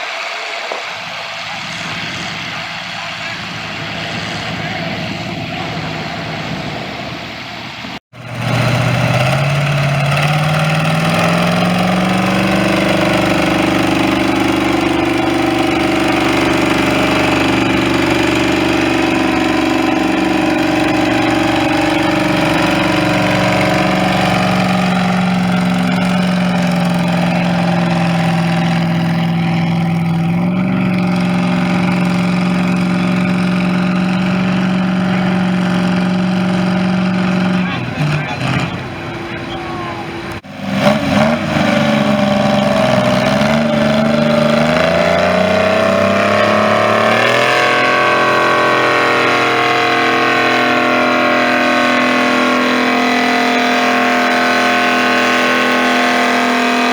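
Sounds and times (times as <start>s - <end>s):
tractor engine revving: 0.0s - 56.9s.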